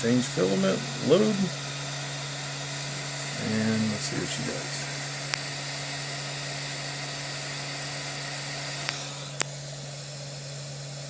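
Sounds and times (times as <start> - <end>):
fans running: 0.0 - 11.0
printer humming: 0.0 - 11.0.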